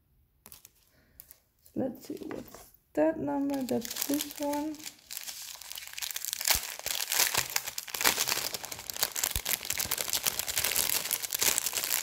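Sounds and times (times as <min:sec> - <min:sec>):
plastic packaging crinkling: 0:00.5 - 0:02.6, 0:03.4 - 0:12.0.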